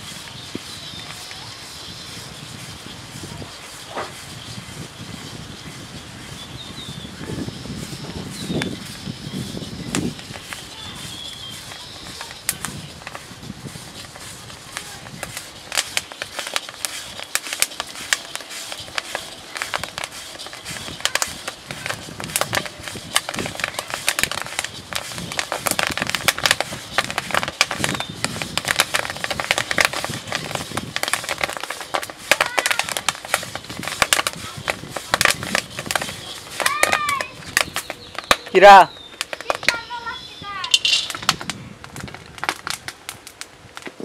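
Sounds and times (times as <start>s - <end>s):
fire crackling and popping: 0.0s - 44.0s.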